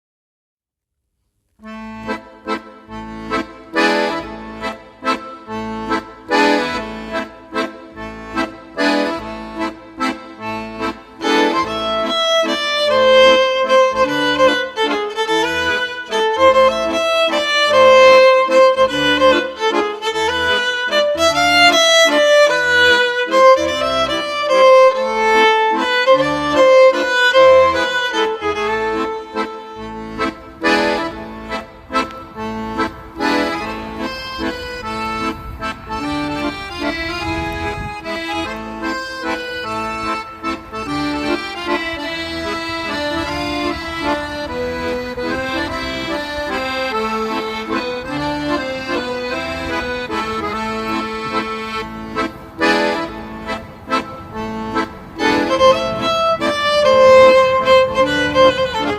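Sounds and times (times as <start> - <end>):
instrumental music with pulsing bass: 1.6 - 58.9.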